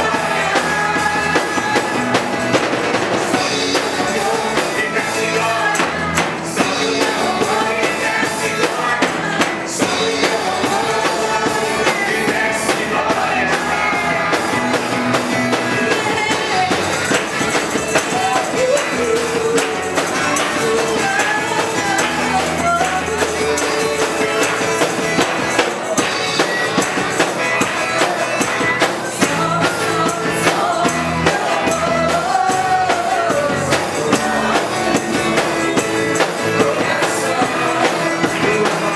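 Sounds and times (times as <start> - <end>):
drum kit: 0.0 - 38.9
guitar: 0.0 - 38.9
person singing: 0.0 - 38.9
worship band music: 0.0 - 38.9.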